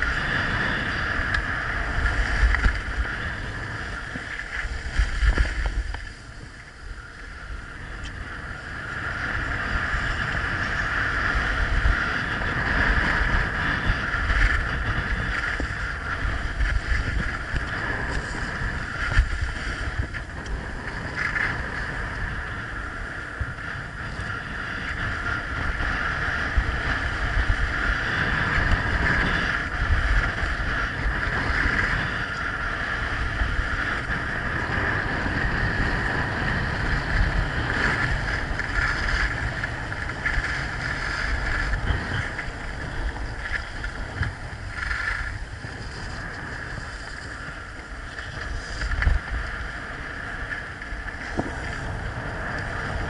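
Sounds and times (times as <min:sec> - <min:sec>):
skis scraping on snow: 0:00.0 - 0:53.0
wind on camera microphone: 0:00.0 - 0:53.0.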